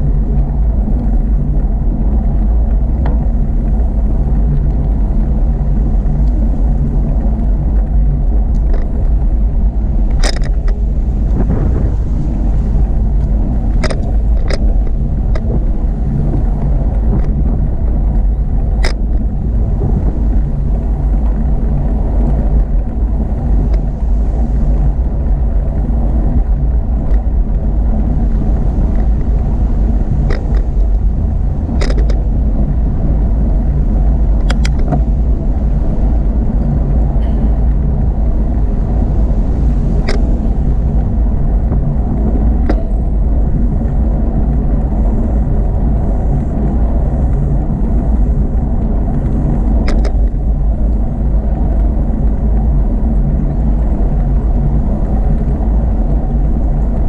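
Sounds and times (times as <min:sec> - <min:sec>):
wind and road rumble on bicycle: 0:00.0 - 0:57.0.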